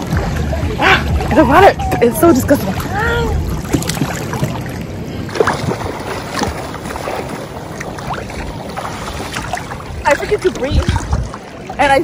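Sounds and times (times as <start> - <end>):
water splashing around swimmer: 0.0 - 12.0.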